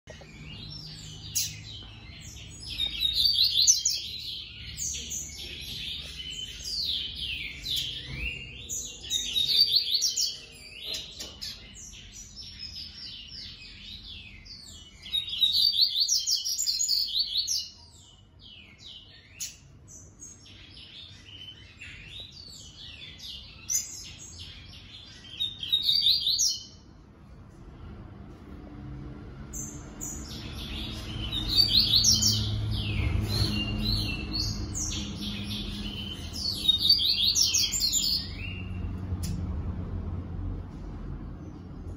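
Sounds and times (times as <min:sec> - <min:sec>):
bird twittering song: 0:00.1 - 0:27.0, 0:29.5 - 0:39.4.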